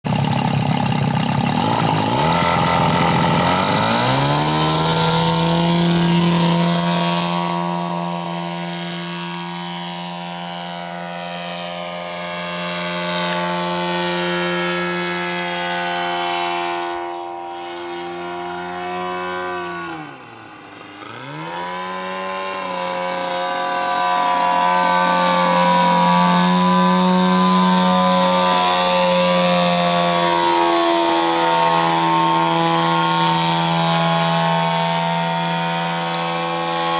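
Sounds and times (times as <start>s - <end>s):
model plane engine and propeller: 0.0s - 36.9s.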